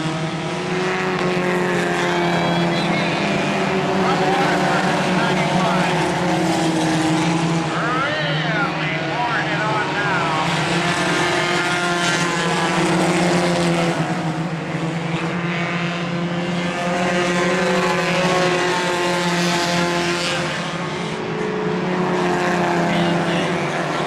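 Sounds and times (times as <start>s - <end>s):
racing car engines running hard: 0.0s - 24.0s.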